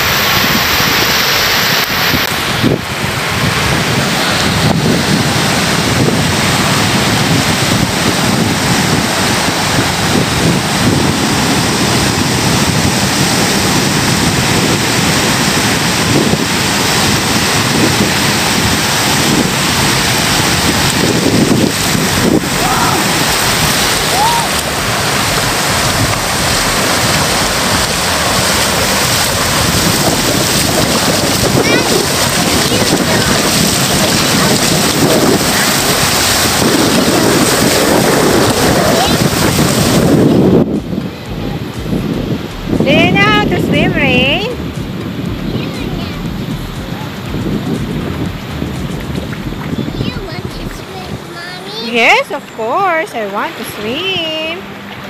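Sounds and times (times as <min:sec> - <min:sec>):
sea surf breaking: 0:00.0 - 0:55.0
wind on microphone: 0:00.0 - 0:55.0.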